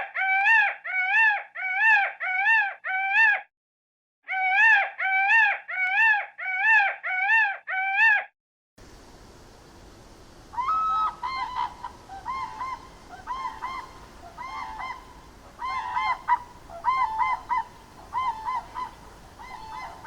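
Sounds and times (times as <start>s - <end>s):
animal high-pitched calls: 0.0s - 3.5s, 4.3s - 8.3s, 10.6s - 20.0s.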